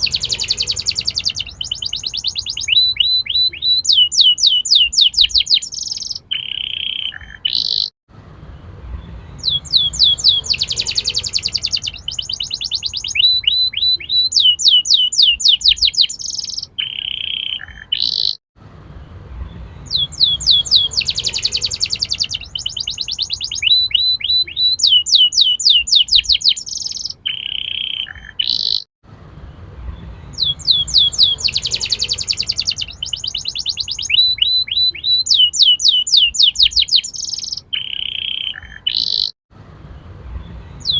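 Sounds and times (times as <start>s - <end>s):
canary singing trills: 0.0s - 8.0s, 9.0s - 18.4s, 19.5s - 28.9s, 29.8s - 39.4s, 40.3s - 40.9s.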